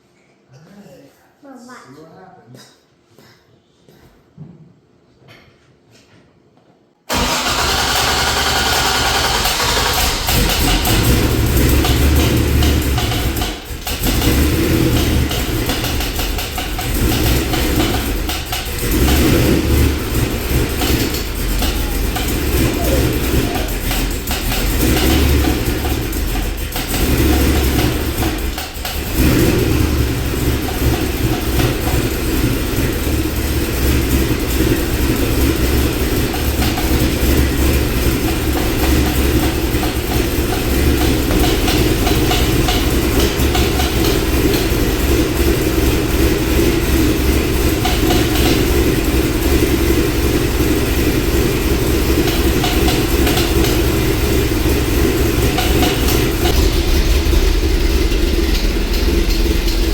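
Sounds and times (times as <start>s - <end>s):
car engine idling: 7.1s - 59.9s
valvetrain tapping: 9.6s - 59.9s.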